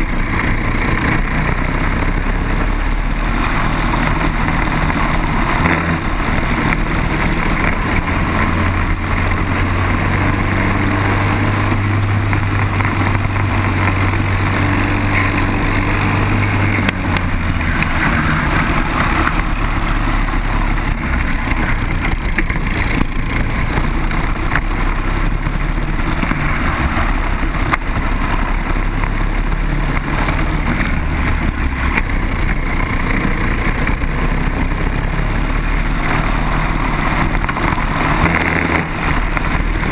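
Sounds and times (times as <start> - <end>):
kart engine racing: 0.0 - 39.9
steady rushing noise: 0.0 - 39.9.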